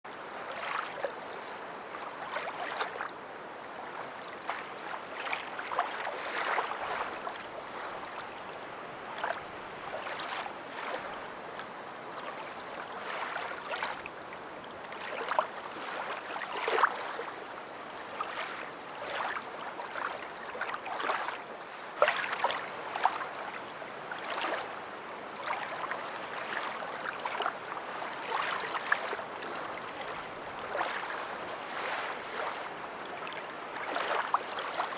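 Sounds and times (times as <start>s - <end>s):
water lapping and splashing: 0.1s - 34.9s.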